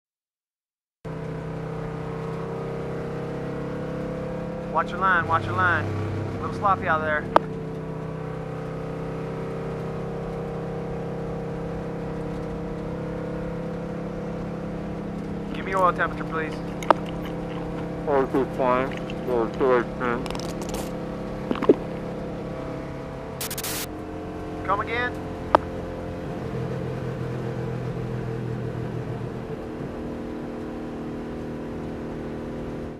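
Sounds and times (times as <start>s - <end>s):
race car engine droning: 1.1s - 32.9s.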